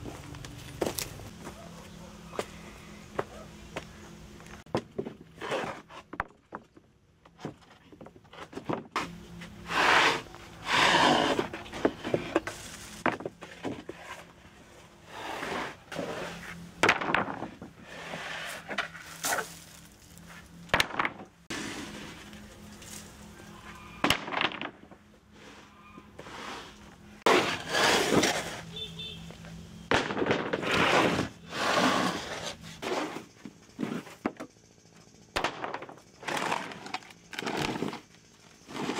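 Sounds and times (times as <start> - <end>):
boards scraping and sliding: 3.1 - 28.9, 30.0 - 34.6, 35.4 - 38.9.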